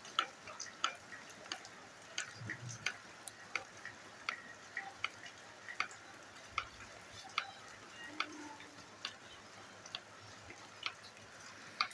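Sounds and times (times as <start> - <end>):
faint steady hiss: 0.0 - 11.9
rainwater dripping: 0.0 - 11.9.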